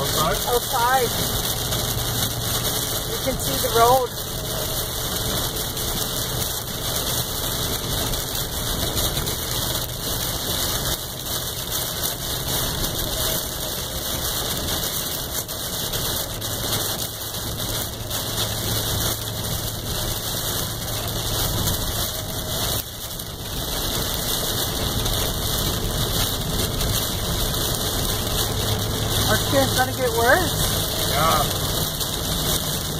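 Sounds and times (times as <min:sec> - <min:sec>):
heavy rain on windshield: 0:00.0 - 0:32.9
truck engine hum: 0:00.0 - 0:32.9
tyres on wet road: 0:00.0 - 0:32.9.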